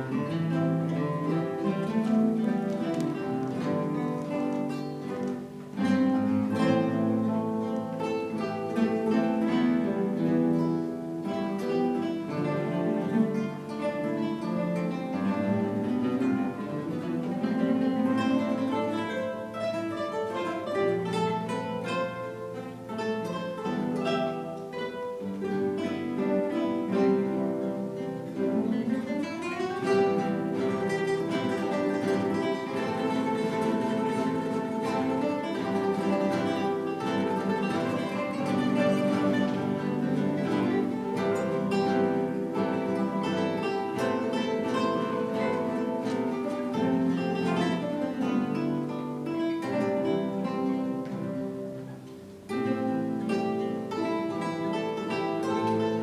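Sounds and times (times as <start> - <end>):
acoustic guitar ensemble playing: 0.0 - 56.0.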